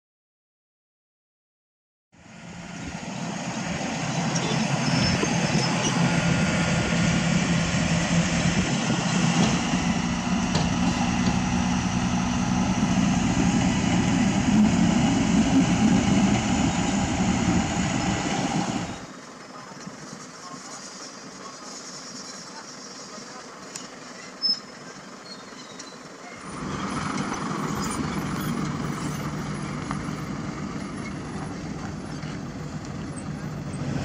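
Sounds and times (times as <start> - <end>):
road and tyre noise: 2.1 - 34.0
diesel truck engine droning: 2.2 - 34.0.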